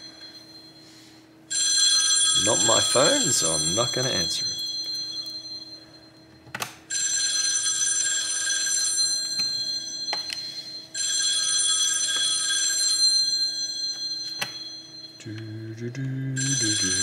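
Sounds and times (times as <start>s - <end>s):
phone ringing: 0.0s - 15.3s, 16.4s - 17.0s.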